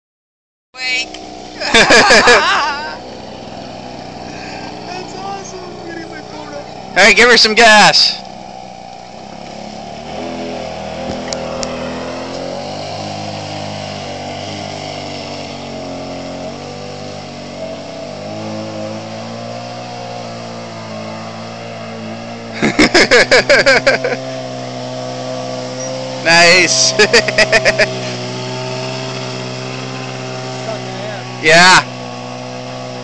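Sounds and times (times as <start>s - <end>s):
two-stroke engine running: 0.8s - 33.0s.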